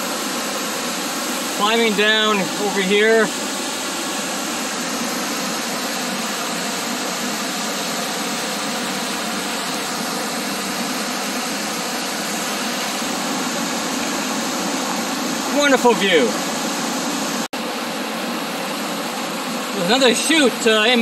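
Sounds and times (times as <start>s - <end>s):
waterfall rushing: 0.0s - 17.5s, 18.4s - 21.0s.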